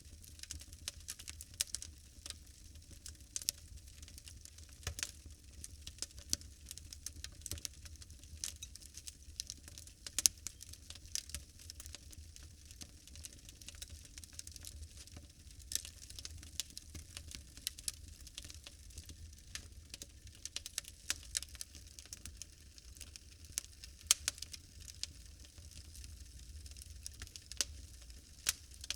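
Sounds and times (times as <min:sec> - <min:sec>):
wood fire crackling and popping: 0:00.0 - 0:28.9.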